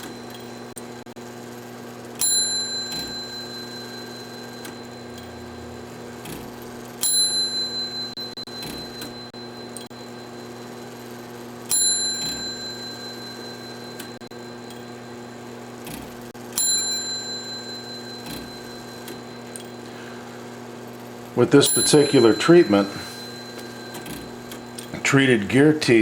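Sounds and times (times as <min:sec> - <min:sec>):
clock mechanism clicks: 0:00.0 - 0:10.0, 0:10.6 - 0:15.0, 0:15.7 - 0:20.2, 0:20.8 - 0:25.0
small clock bell strikes: 0:02.0 - 0:25.0.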